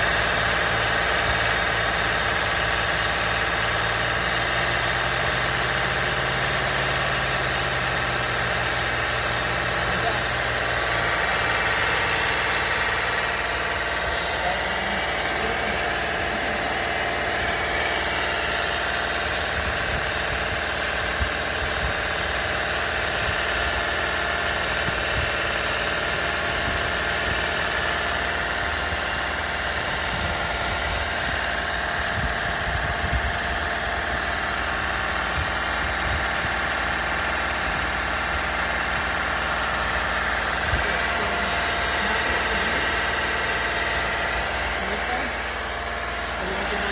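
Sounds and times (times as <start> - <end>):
air purging through hose: 0.0 - 46.9
car engine running: 0.0 - 46.9.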